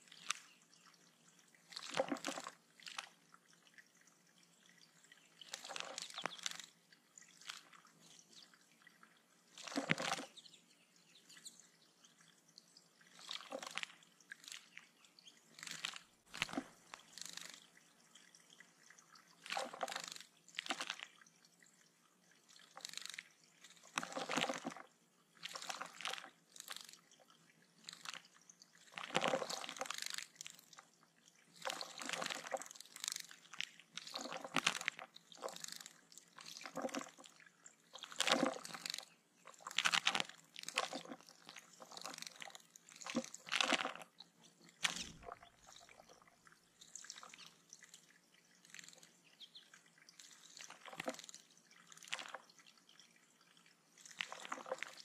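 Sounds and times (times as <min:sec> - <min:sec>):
birds splashing in water: 0:00.1 - 0:04.0, 0:04.7 - 0:30.8, 0:31.4 - 0:52.6, 0:54.0 - 0:55.0.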